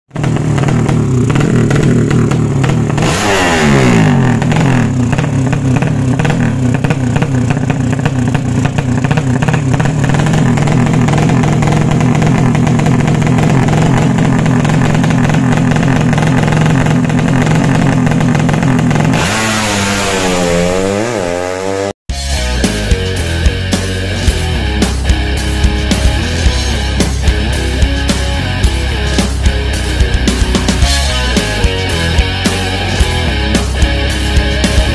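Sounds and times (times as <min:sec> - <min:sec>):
motorcycle engine revving loudly: 0:00.1 - 0:34.9.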